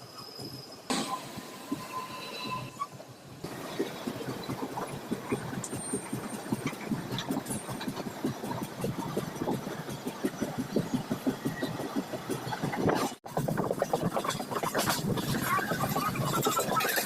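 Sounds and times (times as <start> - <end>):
train rumble: 0.0 - 17.0
train wheels clattering: 0.4 - 17.0.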